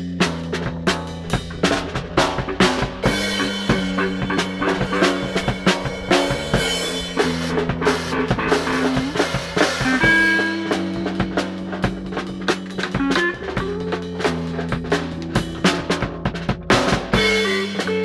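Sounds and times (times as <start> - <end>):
bass and guitar notes: 0.0 - 18.0
drum kit played with sticks: 0.0 - 18.0.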